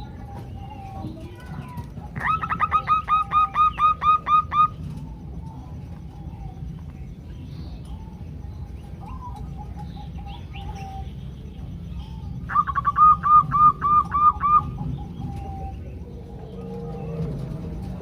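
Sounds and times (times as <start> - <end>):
doves cooing: 0.0 - 18.0
low rumble: 0.0 - 18.0.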